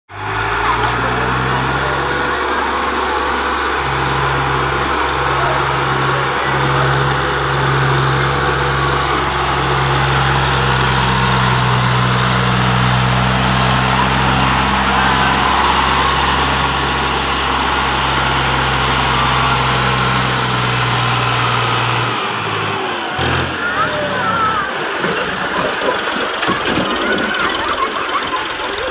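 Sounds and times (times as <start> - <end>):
tractor diesel engine running: 0.1 - 28.9.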